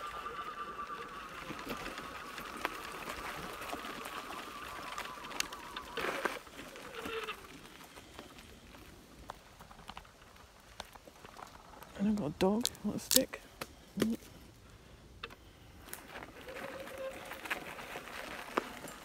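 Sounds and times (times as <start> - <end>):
gravel ticking under tyres: 0.0 - 19.0.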